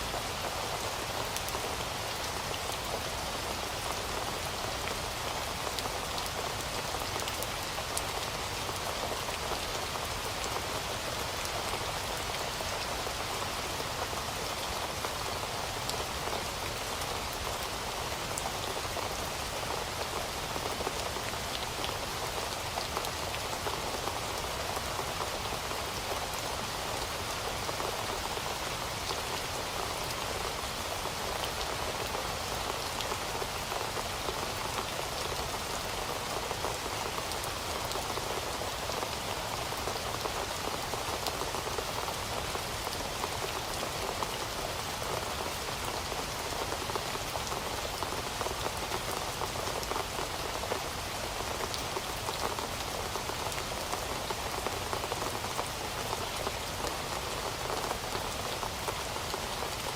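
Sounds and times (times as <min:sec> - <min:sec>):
heavy rain patter: 0:00.0 - 0:59.9.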